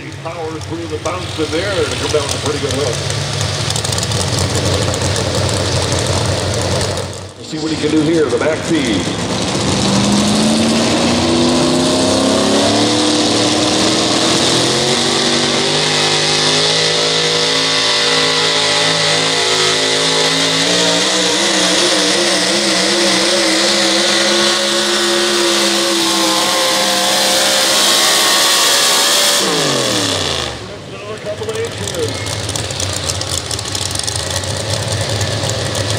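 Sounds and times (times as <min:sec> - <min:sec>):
truck engine at full throttle: 0:00.0 - 0:35.9.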